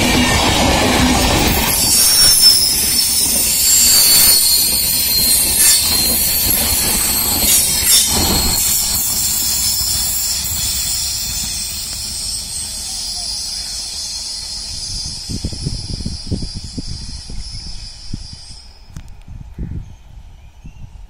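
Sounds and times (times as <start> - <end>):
train wheels squealing: 0.0 - 19.0.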